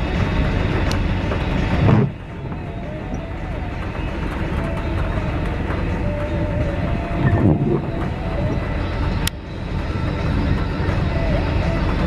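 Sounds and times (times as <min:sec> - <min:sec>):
storm wind buffeting microphone: 0:00.0 - 0:12.0.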